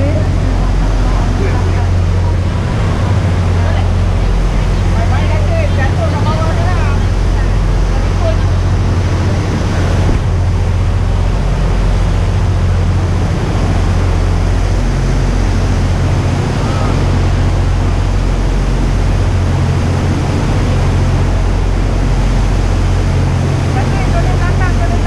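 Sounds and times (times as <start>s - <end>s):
boat engine droning: 0.0s - 25.0s
water noise: 0.0s - 25.0s
wind: 0.0s - 25.0s.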